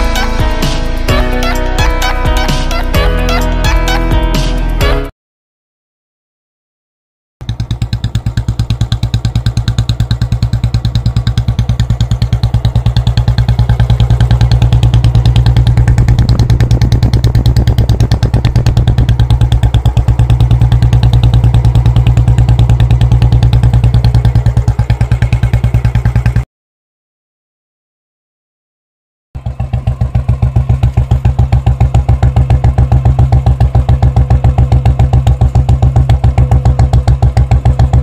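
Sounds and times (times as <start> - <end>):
motorcycle engine idling: 0.0 - 4.8, 7.4 - 26.4, 29.4 - 38.0.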